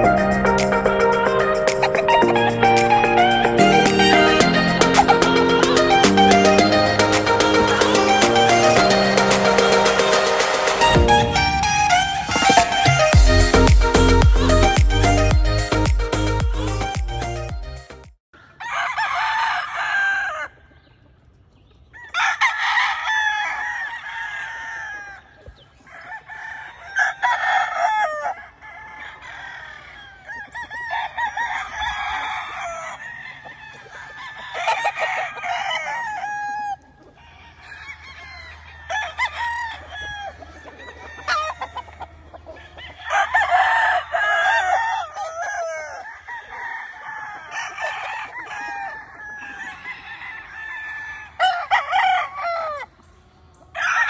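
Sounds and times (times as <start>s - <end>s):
chickens clucking: 0.0s - 15.3s, 24.5s - 54.0s
roosters crowing: 0.0s - 17.4s, 18.4s - 21.0s, 21.8s - 54.0s.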